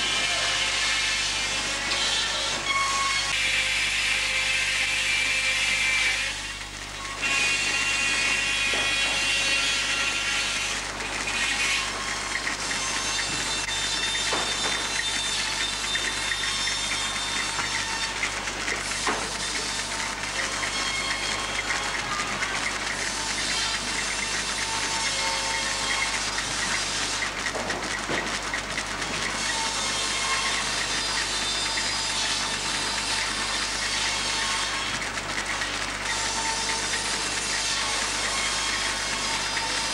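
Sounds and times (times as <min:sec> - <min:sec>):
belt-driven sawmill machinery: 0:00.0 - 0:39.9.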